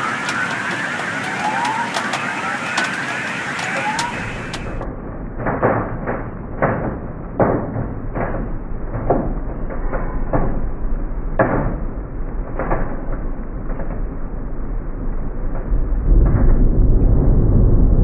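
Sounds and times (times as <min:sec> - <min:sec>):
thunder cracks and rumbles: 0:00.0 - 0:18.0.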